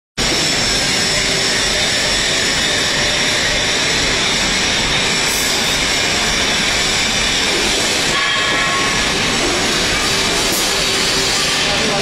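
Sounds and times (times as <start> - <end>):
garbage truck compactor running: 0.2 - 12.0.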